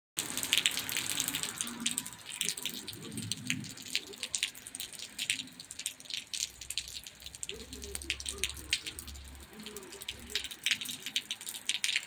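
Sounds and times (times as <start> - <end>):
rain falling: 0.2 - 12.0.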